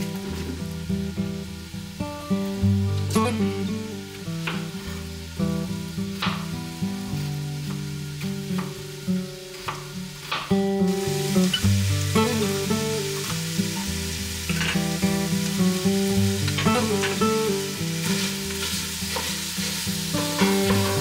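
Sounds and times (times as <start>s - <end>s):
background music: 0.0s - 21.0s
sausage sizzling in a pot: 0.0s - 21.0s.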